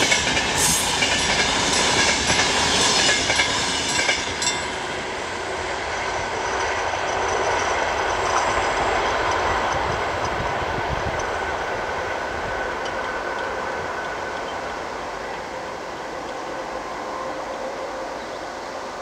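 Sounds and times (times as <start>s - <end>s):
wheels clicking over rail joints: 0.0s - 5.0s, 5.8s - 16.5s
passenger train rushing past: 0.0s - 19.0s.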